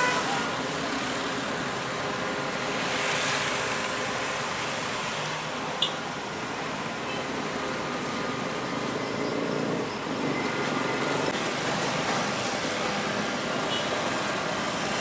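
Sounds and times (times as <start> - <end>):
cars driving past: 0.0 - 15.0.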